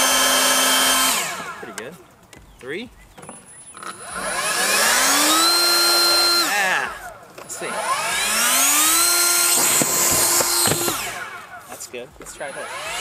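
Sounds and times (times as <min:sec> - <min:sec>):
leaf blower motor whine: 0:00.0 - 0:01.9, 0:03.8 - 0:13.0.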